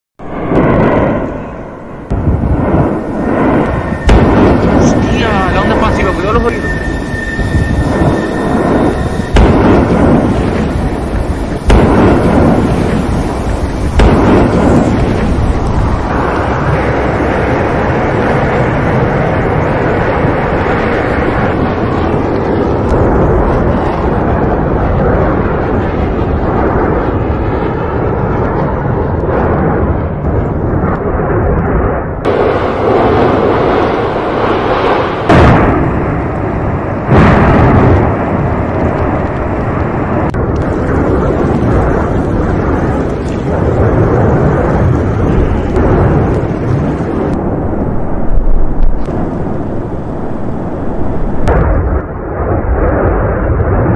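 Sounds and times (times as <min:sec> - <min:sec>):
explosive blasts: 0:00.2 - 0:53.9
volcano rumbling: 0:00.2 - 0:53.9.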